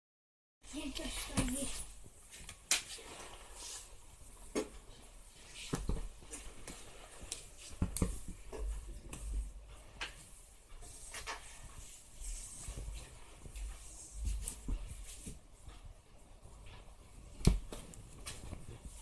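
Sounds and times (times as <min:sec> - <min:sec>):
kittens thumping and rustling on blanket: 0:00.8 - 0:19.0.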